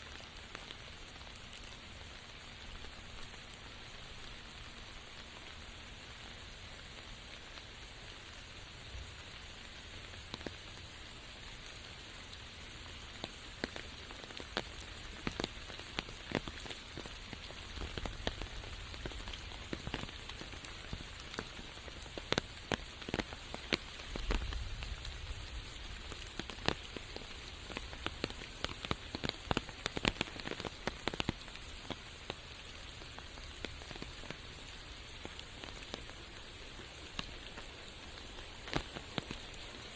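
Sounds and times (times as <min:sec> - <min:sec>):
raindrops striking close by: 0:00.0 - 0:39.9
steady rain hiss: 0:00.0 - 0:39.9.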